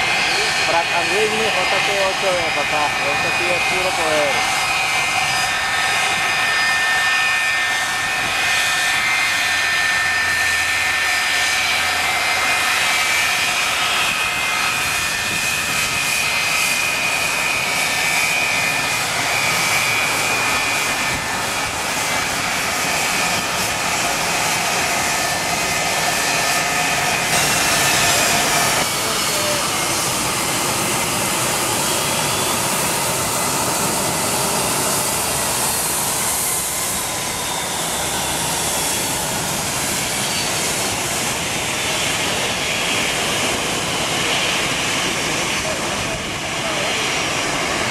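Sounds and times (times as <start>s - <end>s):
jet engines whining: 0.0s - 47.9s.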